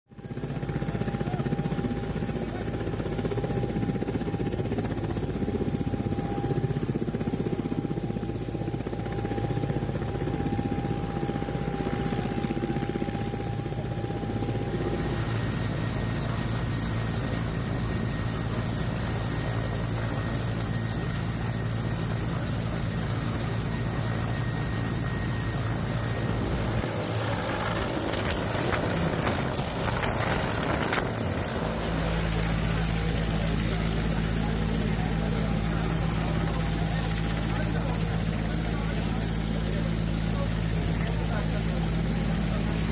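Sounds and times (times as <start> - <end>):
helicopter engine and rotor noise: 0.1 - 42.9.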